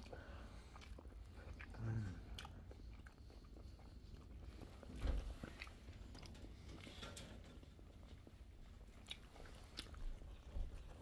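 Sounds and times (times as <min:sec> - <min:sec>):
chewing food: 0:00.0 - 0:11.0.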